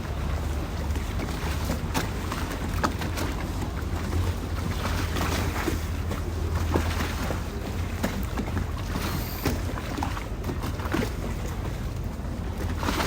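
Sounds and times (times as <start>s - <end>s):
small splashes and knocks: 0.0s - 13.0s
water lapping against boats: 0.0s - 13.0s.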